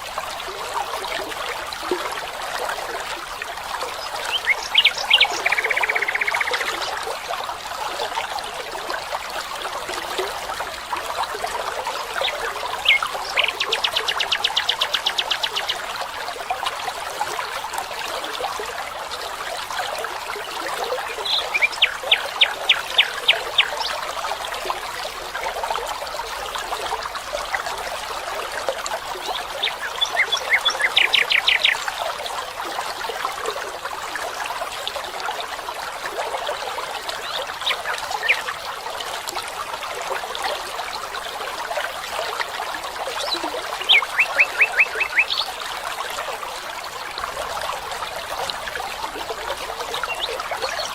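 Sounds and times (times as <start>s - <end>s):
stream running: 0.0s - 50.9s.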